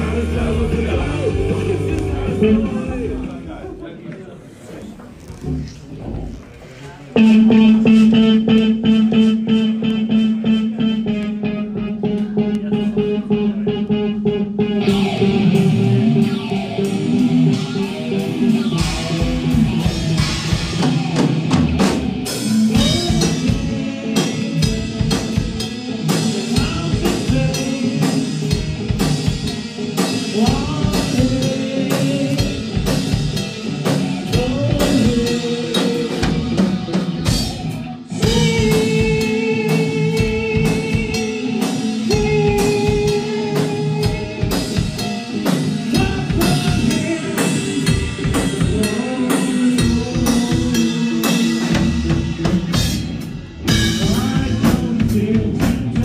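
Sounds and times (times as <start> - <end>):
electric guitars: 0.0 - 3.6, 5.1 - 56.0
pounding drum kit: 0.0 - 3.8, 5.1 - 13.1, 14.2 - 56.0.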